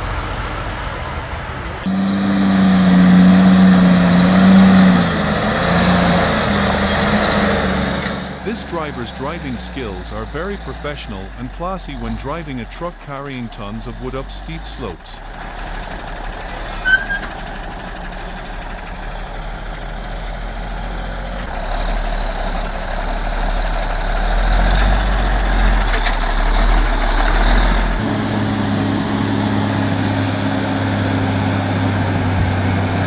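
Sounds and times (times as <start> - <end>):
heavy truck engine under load: 0.0 - 33.0.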